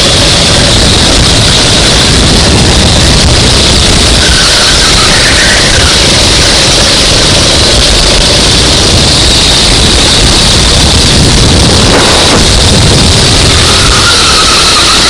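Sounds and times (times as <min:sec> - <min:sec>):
racing kart engine: 0:00.0 - 0:15.0.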